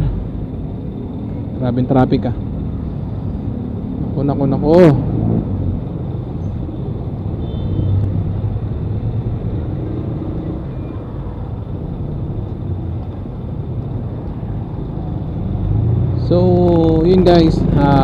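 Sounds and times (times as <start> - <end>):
motorcycle engine rumble: 0.0 - 18.0
traffic: 0.0 - 18.0.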